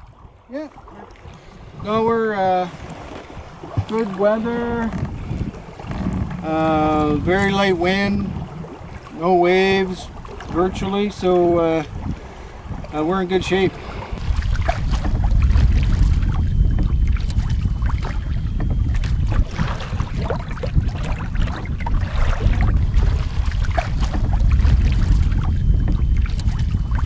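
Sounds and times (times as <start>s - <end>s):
water splashing around canoe: 0.0s - 27.0s
wind rumble on microphone: 0.0s - 27.0s.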